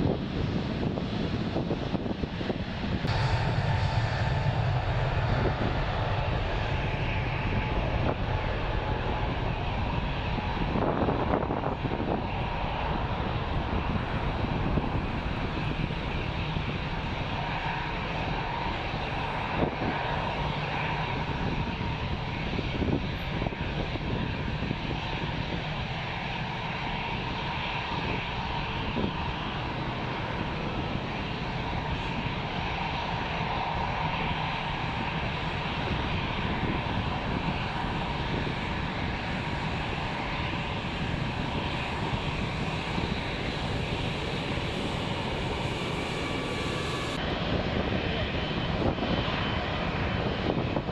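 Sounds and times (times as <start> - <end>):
jet engines rushing and whining: 0.0 - 50.9.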